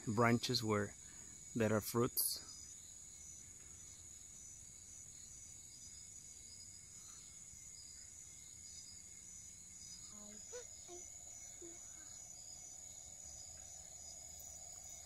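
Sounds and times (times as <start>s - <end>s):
insect pulsing trill: 0.0s - 15.0s
insects droning: 0.0s - 15.0s.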